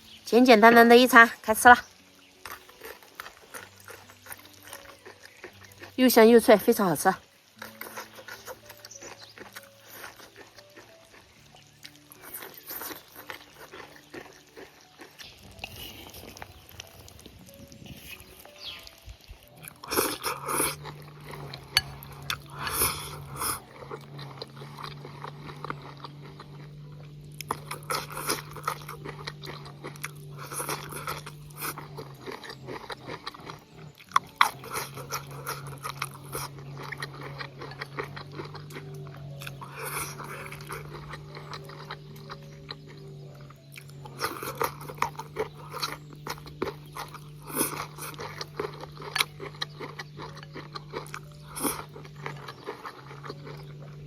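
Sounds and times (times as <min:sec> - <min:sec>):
person crunching and chewing food: 0:01.8 - 0:54.0.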